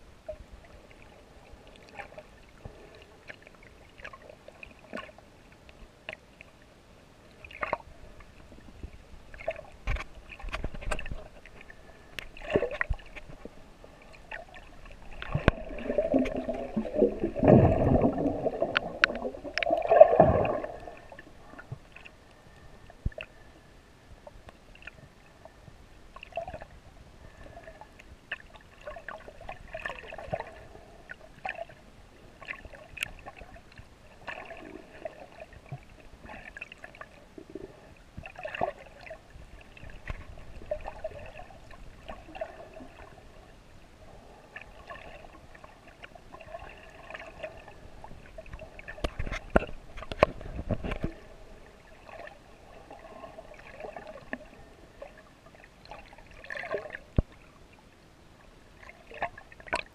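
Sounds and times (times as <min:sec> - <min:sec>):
muffled water sloshing and gurgling: 0:00.0 - 0:59.9.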